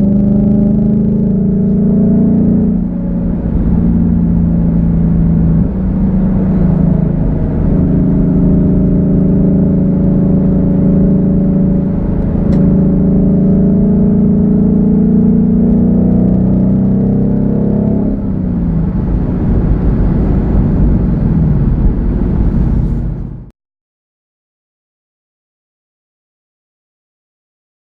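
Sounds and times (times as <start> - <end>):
car engine low drone: 0.0 - 23.5.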